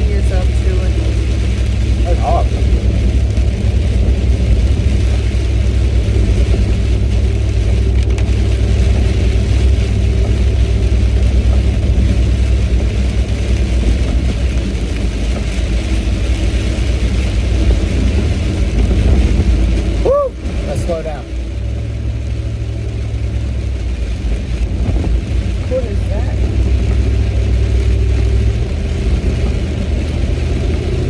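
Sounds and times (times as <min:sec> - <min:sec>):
car cabin road noise: 0:00.0 - 0:31.0.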